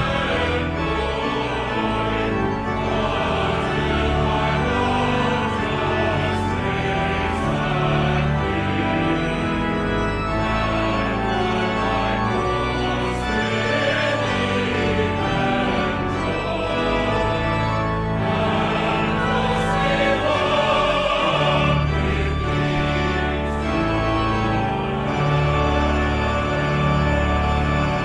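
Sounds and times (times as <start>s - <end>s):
choir singing a hymn: 0.0s - 28.0s
organ chords: 0.0s - 28.0s.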